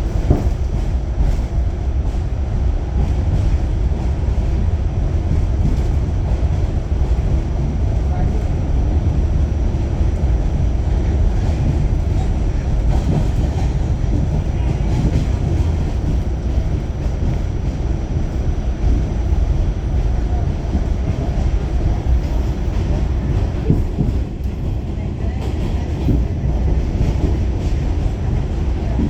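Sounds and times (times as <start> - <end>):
subway wheels rumbling on rail: 0.0 - 29.0.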